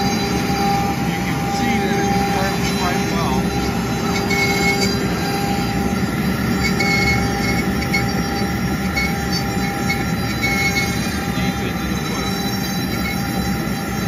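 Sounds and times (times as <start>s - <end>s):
router bit cutting wood: 0.0s - 14.0s
router spindle whine: 0.0s - 14.0s
shop vacuum rushing: 0.0s - 14.0s.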